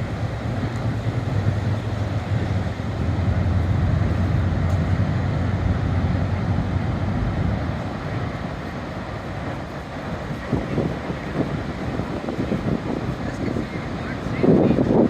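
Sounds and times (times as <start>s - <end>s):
ocean waves crashing: 0.0s - 15.0s
wind buffeting microphone: 0.0s - 15.0s.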